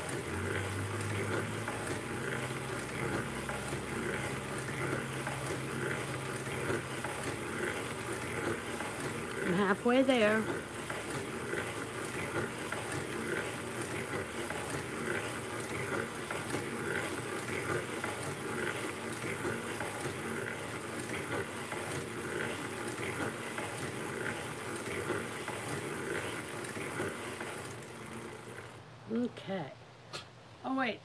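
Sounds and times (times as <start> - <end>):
knitting machine needles clattering: 0.0 - 28.8.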